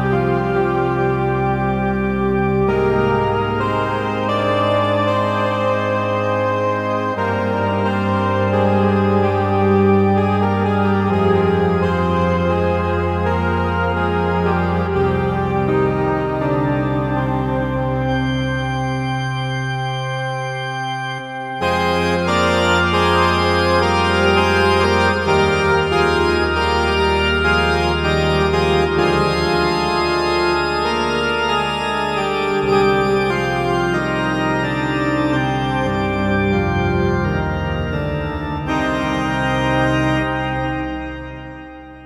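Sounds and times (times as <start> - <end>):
synthesizer organ chords: 0.0 - 42.0.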